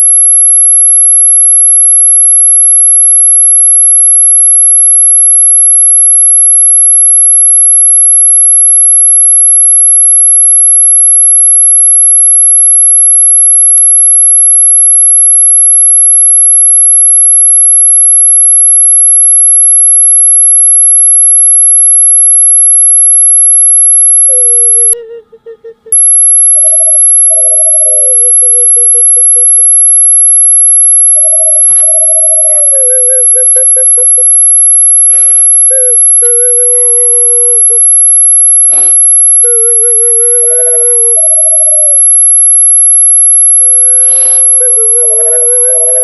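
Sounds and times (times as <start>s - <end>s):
high-pitched electronic tone: 0.0s - 46.0s.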